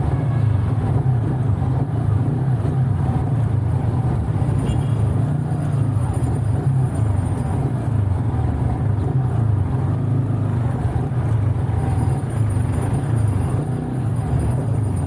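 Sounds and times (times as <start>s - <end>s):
motorcycle engine hum: 0.0s - 15.0s
road and wind noise: 0.0s - 15.0s.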